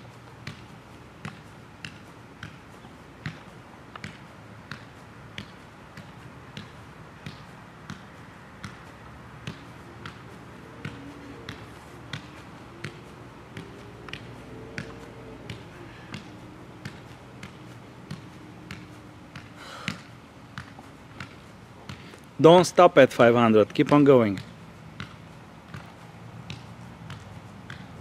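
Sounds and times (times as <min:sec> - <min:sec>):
ball tapped by feet: 0:00.0 - 0:28.0.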